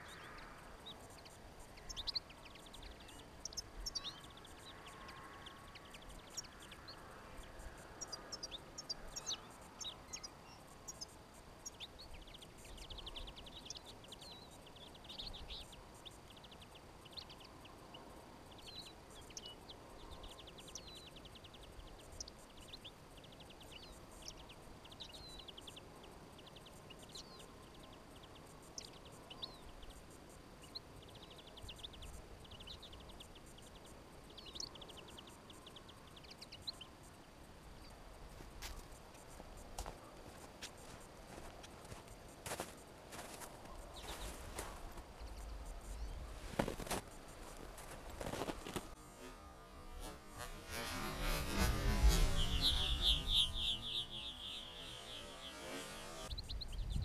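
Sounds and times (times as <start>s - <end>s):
finches twittering and chirping: 0.0s - 57.0s.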